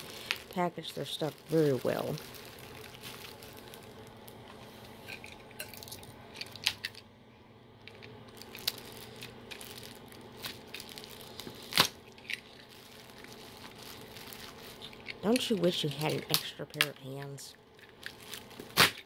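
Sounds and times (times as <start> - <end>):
plastic wrapping crinkling: 0.0 - 7.0, 7.9 - 19.0.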